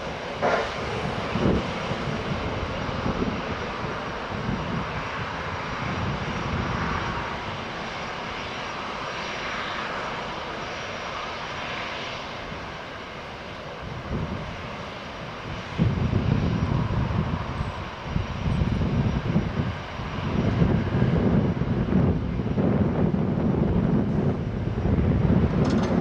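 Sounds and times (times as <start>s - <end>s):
aircraft engines rushing: 0.0s - 26.0s.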